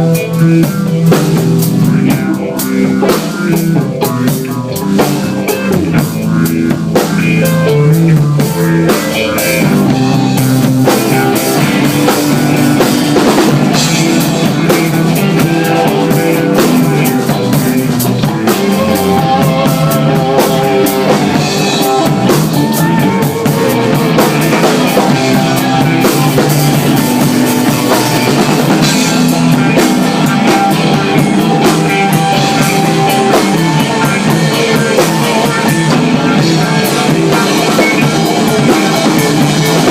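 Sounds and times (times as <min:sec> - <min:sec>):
drum kit beat: 0:00.0 - 0:39.9
guitar: 0:00.0 - 0:39.9
live rock band playing: 0:00.0 - 0:39.9.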